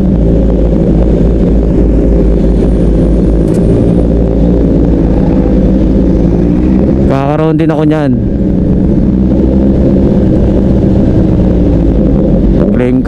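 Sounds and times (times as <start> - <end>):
motorcycle engines running: 0.0 - 13.0
wind rush on microphone: 0.0 - 13.0.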